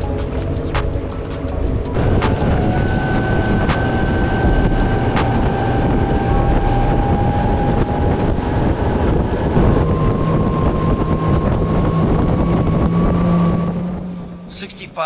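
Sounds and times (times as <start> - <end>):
wind on microphone: 0.0 - 14.4
electric motor whine: 0.0 - 14.5.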